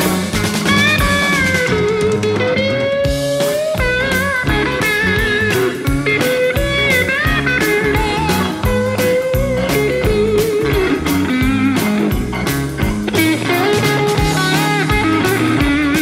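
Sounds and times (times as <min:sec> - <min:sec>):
blues band playing: 0:00.0 - 0:16.0
drum kit: 0:00.0 - 0:16.0
electric guitar bent notes: 0:00.0 - 0:16.0.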